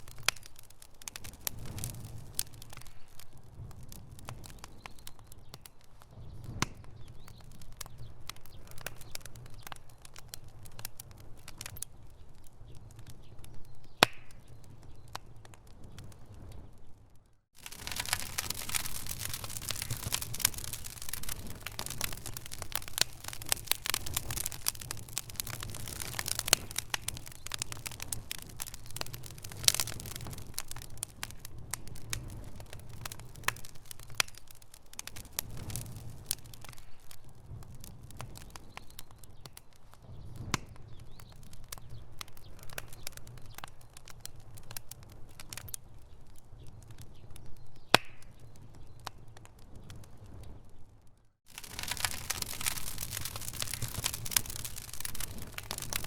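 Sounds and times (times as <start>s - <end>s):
fire crackling and popping: 0.0s - 56.0s
low rumble of burning: 0.0s - 56.0s.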